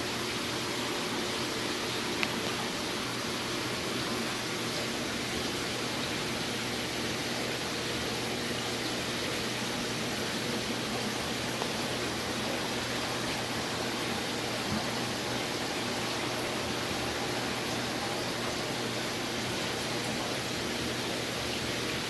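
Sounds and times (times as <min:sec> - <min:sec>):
aquarium water rushing: 0:00.0 - 0:22.0
faint pump hum: 0:00.0 - 0:22.0.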